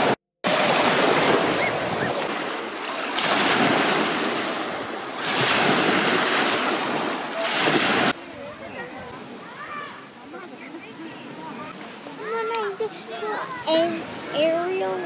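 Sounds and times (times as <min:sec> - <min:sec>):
small waves washing on shore: 0:00.0 - 0:15.0.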